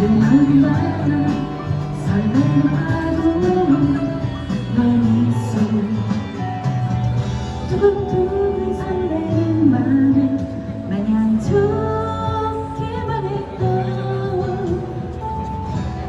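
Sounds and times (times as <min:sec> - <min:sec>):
woman singing: 0:00.0 - 0:06.5, 0:07.7 - 0:15.6.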